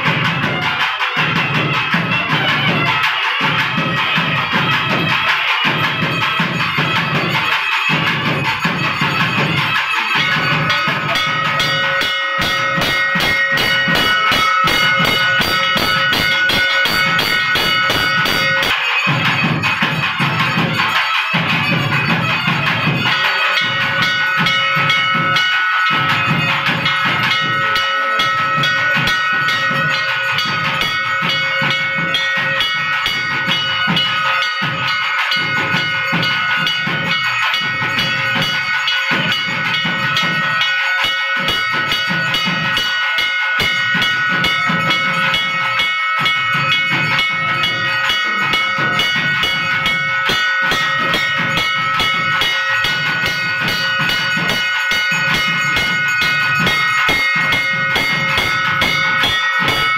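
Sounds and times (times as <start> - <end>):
fast dense drumming: 0.0 - 59.9.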